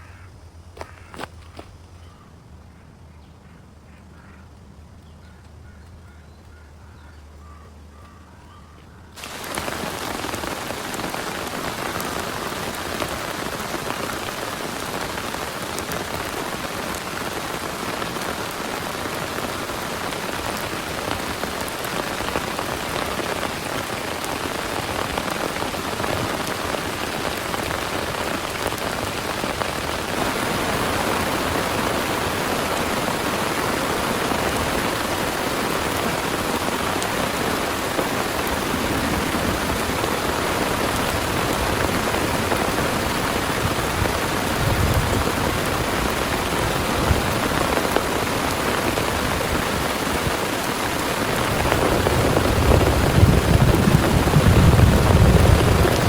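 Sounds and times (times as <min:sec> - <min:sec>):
heavy rain: 0:09.2 - 0:56.0.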